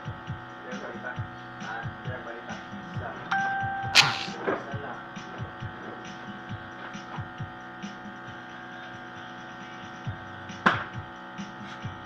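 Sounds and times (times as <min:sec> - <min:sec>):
music with bass-drum thumps: 0:00.0 - 0:12.0.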